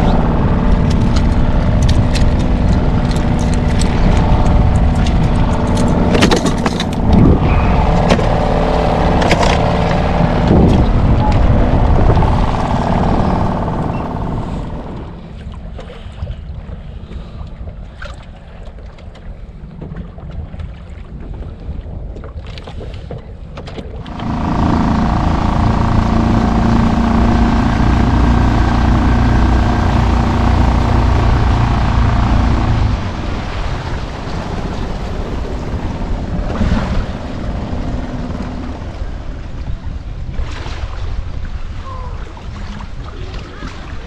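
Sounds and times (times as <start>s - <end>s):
water rushing: 0.0s - 16.2s, 23.9s - 44.0s
small outboard motor humming: 0.0s - 21.3s, 23.4s - 40.4s
wind: 0.0s - 44.0s.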